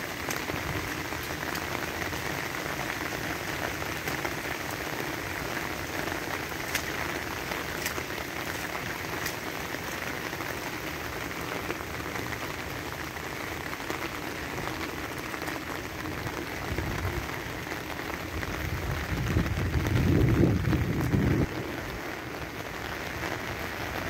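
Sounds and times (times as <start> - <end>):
rain drumming on an umbrella: 0.0 - 24.0
rain pattering on wet pavement: 0.0 - 24.0.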